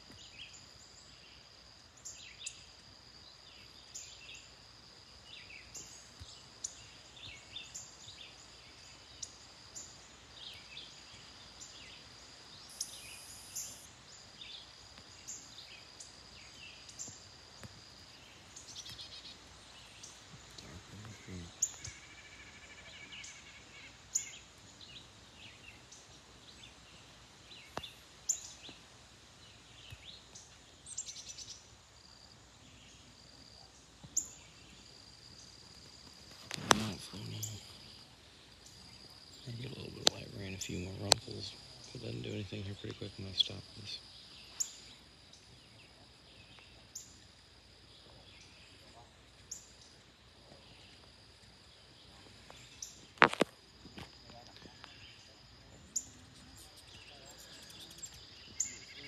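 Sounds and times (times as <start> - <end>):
birds chirping: 5.2 - 47.2, 47.8 - 59.0.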